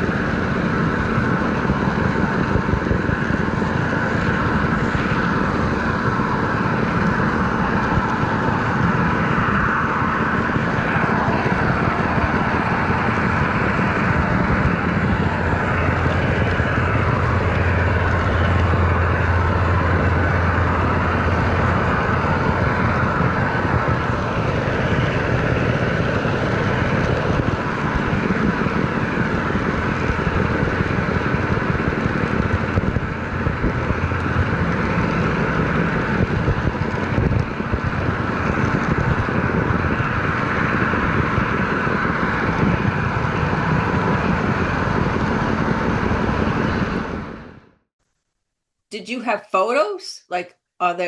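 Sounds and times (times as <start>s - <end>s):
engine rumble: 0.0s - 47.8s.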